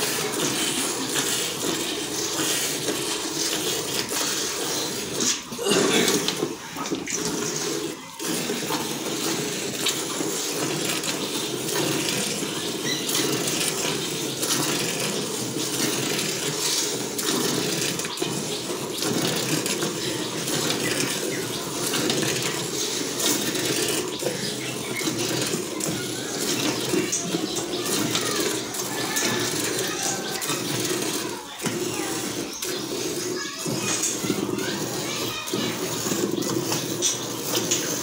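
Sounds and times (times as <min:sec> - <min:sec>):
milk squirting into bucket: 0:00.0 - 0:38.0.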